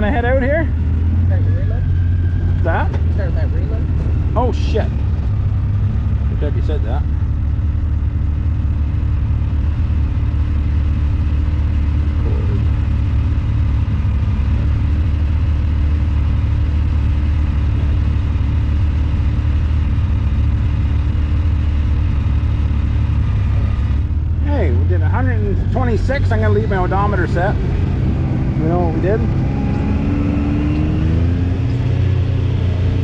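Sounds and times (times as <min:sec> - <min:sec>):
utility vehicle engine idling: 0:00.0 - 0:33.0.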